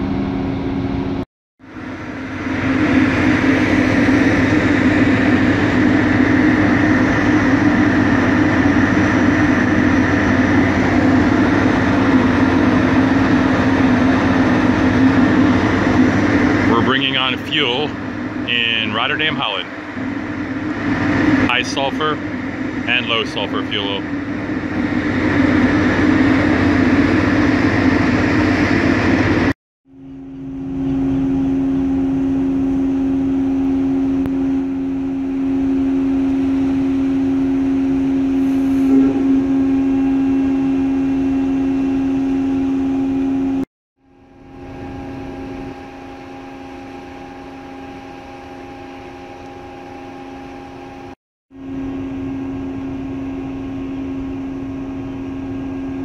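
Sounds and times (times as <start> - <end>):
ship machinery hum: 0.0 - 56.0.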